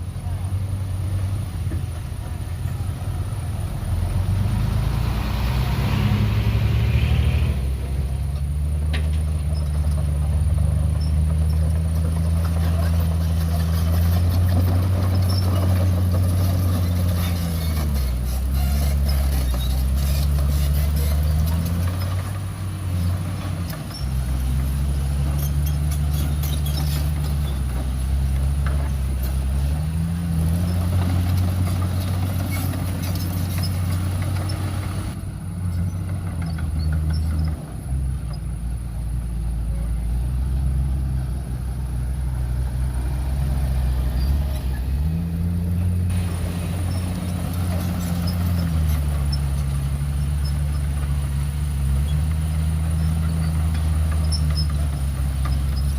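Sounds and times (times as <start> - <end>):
heavy diesel engines under load: 0.0 - 55.9.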